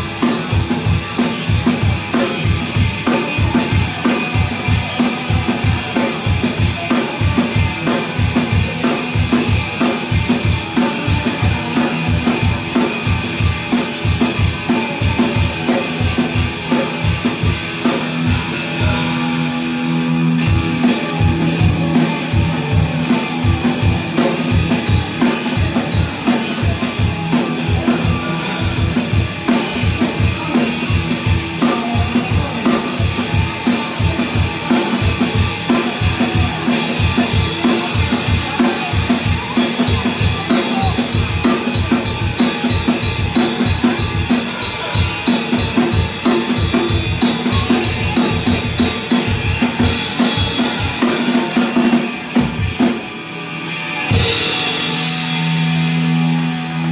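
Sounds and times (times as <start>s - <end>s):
drum kit playing: 0.0s - 56.9s
electric guitar holding notes: 0.0s - 56.9s.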